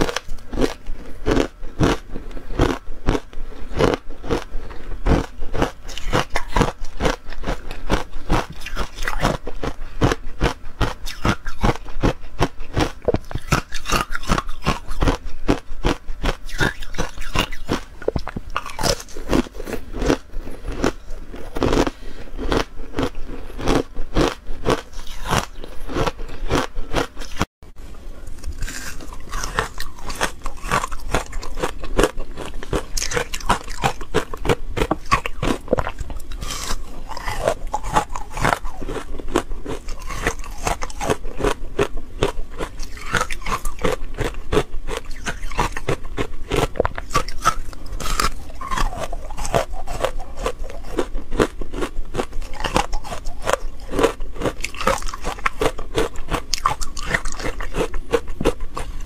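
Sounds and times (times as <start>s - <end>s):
teeth crunching frozen ice: 0.0s - 27.5s, 28.3s - 59.0s.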